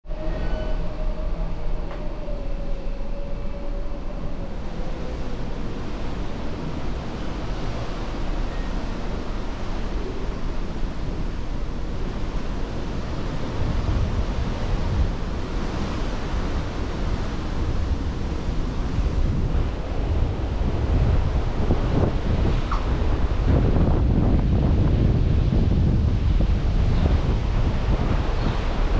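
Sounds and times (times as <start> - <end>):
wind and sea rushing: 0.0 - 28.9
wind buffeting microphone: 0.0 - 28.9.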